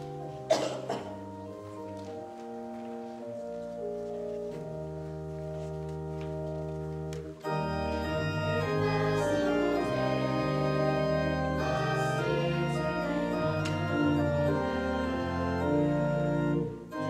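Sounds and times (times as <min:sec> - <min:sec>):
organ playing hymn chords: 0:00.0 - 0:17.0.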